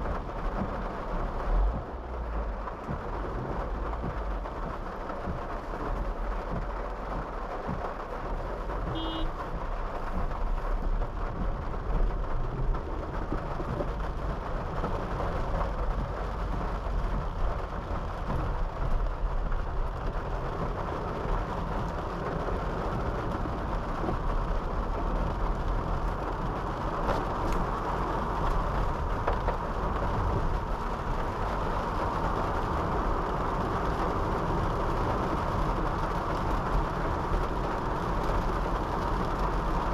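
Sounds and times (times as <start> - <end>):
rain on car: 0.0 - 39.9
road and tyre noise: 0.0 - 39.9.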